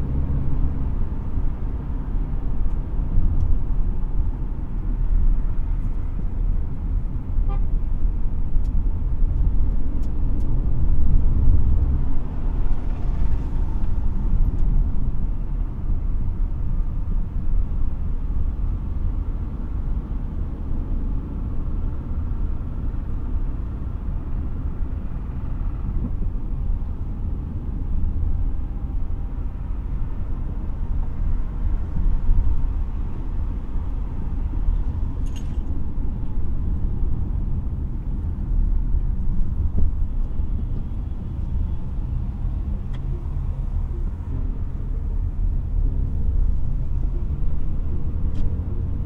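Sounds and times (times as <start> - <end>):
road and engine rumble: 0.0 - 49.0.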